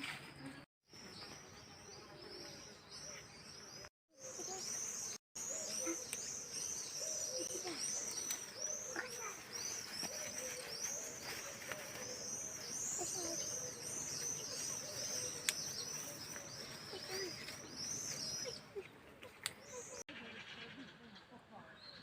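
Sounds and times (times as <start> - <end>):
birds chirping: 0.3 - 22.0.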